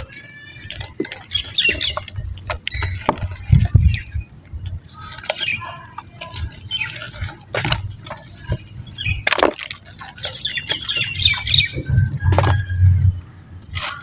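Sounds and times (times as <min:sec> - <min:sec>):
wet mud crumbling and crunching: 0:00.0 - 0:14.0.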